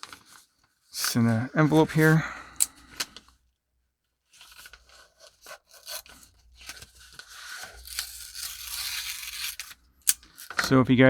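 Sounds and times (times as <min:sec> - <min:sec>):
padded envelope rustling: 0:00.0 - 0:03.3, 0:04.3 - 0:10.8.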